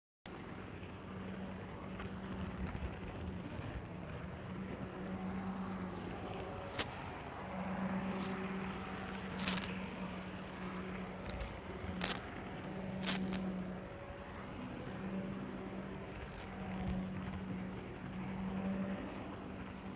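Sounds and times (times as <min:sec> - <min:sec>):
model train motor humming: 0:03.9 - 0:19.9.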